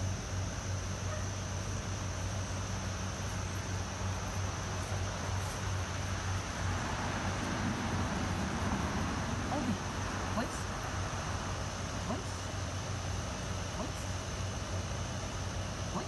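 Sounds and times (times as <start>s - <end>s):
high insect buzz: 0.0s - 16.0s
low steady hum: 0.0s - 16.0s.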